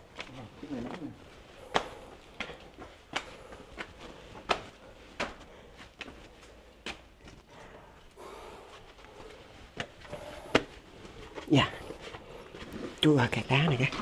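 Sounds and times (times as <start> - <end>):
footsteps in a cave: 0.0 - 14.0.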